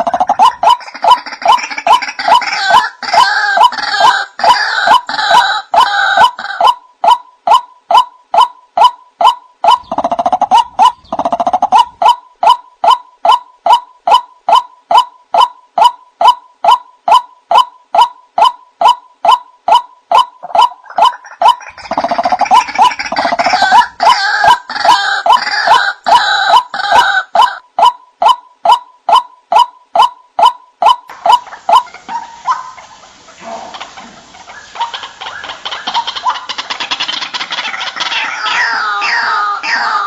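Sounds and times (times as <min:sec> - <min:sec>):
waterhens croaking calls: 0:00.0 - 0:40.0.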